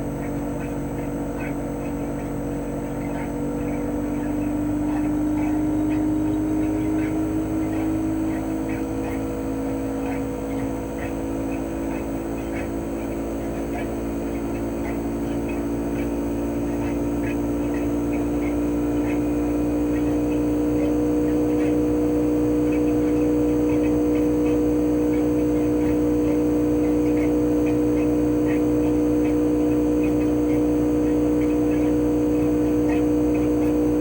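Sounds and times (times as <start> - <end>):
compressor humming: 0.0 - 34.0
fan whooshing: 0.0 - 34.0.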